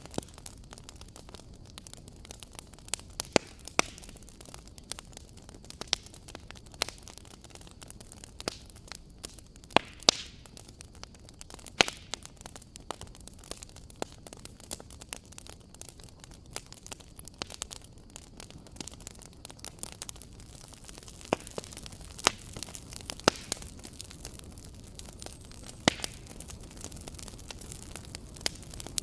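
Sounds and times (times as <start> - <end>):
fire low hiss: 0.0 - 29.0
fire pops and snaps: 0.0 - 29.0.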